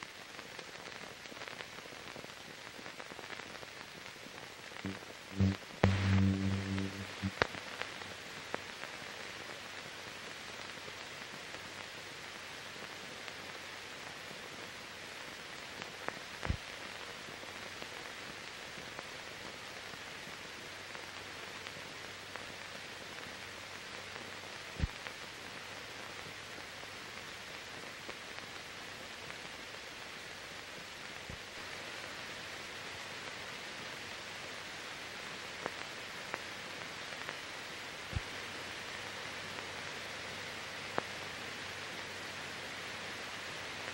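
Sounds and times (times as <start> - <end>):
steady hiss: 0.0 - 43.9.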